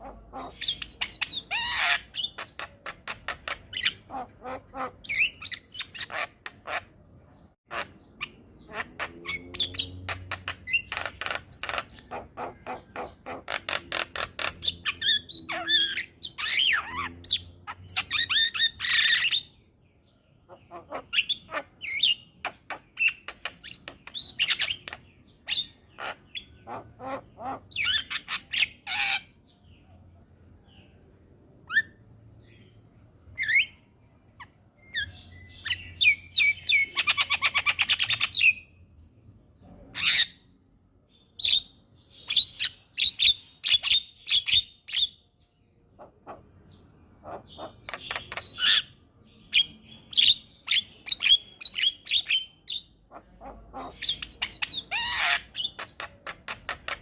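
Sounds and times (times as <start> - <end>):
myna bird singing: 0.0 - 57.0.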